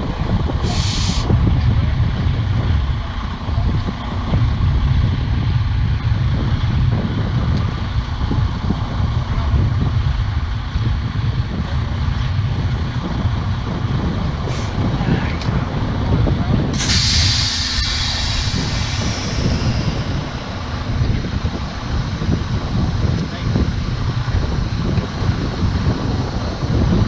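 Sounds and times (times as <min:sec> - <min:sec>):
diesel truck engine rumbling: 0:00.0 - 0:27.0.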